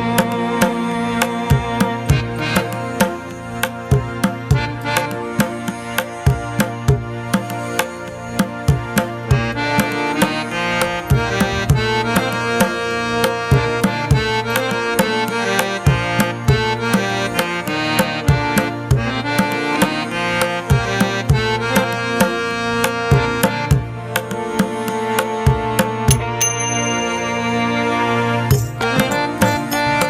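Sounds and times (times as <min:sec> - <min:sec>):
reed instrument melody: 0:00.0 - 0:30.0.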